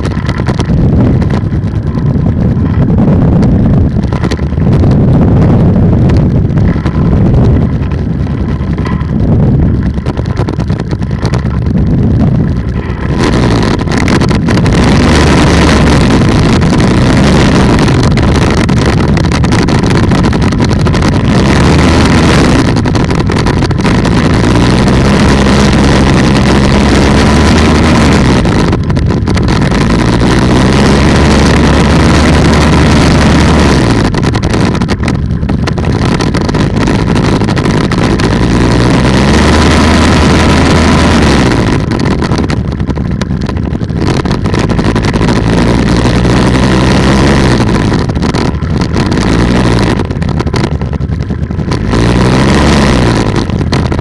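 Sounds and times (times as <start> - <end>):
ultralight engine and propeller: 0.0 - 54.0
wind buffeting microphone: 0.0 - 54.0.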